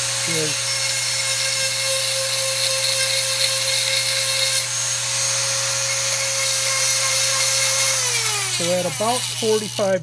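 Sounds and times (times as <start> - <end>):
rotary tool motor whine: 0.0 - 10.0
grinding stone on metal: 0.4 - 10.0.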